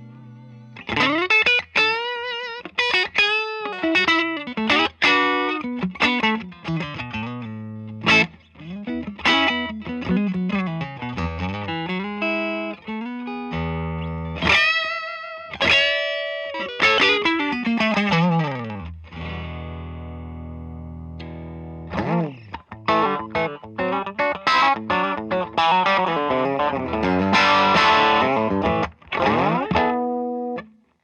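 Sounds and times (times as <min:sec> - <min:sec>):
overdriven electric guitar: 0:00.0 - 0:31.0.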